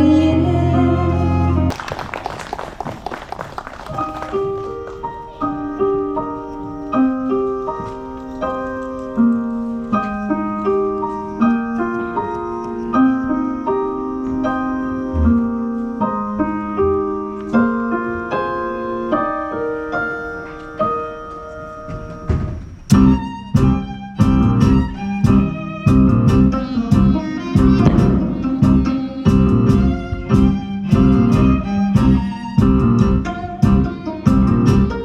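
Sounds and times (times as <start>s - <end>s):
gentle piano music: 3.9s - 24.2s, 24.9s - 35.0s.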